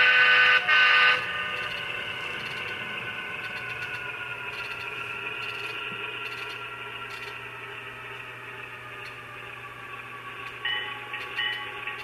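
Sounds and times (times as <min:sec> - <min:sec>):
diesel engine sound from small speaker: 0:00.6 - 0:12.0.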